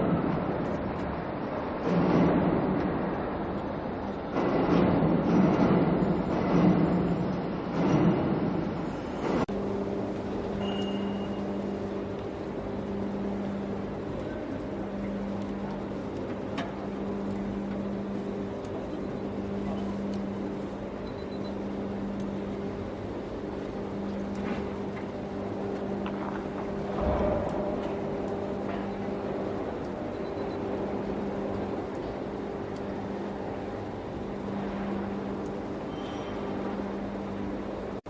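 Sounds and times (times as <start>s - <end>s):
electrical hum: 0.0s - 38.0s
industrial rumble: 0.0s - 38.0s.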